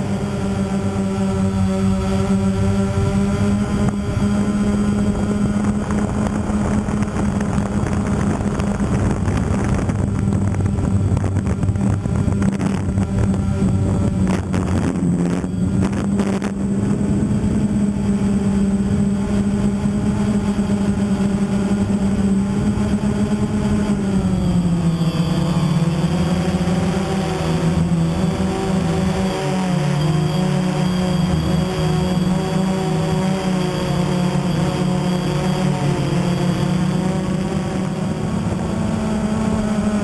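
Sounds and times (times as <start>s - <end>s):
drone motors buzzing: 0.0s - 40.0s
wind rushing over microphone: 0.0s - 40.0s.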